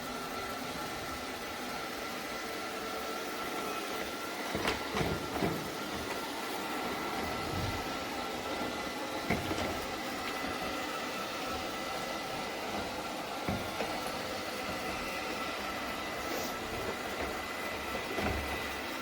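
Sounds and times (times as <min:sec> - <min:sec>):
robot vacuum motor hum: 0:00.0 - 0:19.0.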